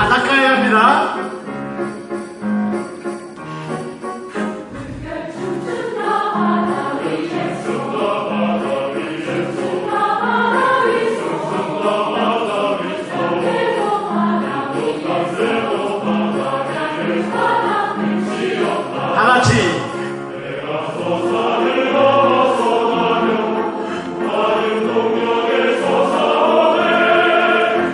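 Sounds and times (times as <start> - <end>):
choir singing in parts: 4.3 - 27.9.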